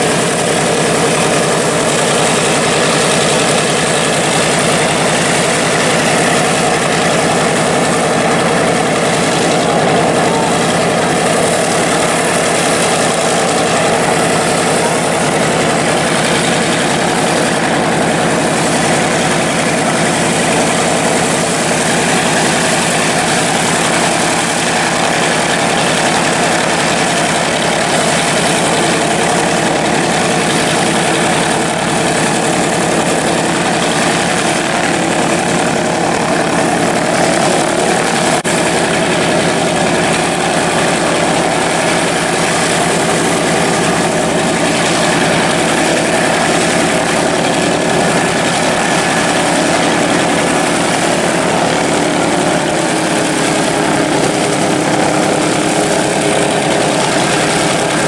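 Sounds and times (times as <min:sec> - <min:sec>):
radial aircraft engine idling: 0:00.0 - 0:58.0.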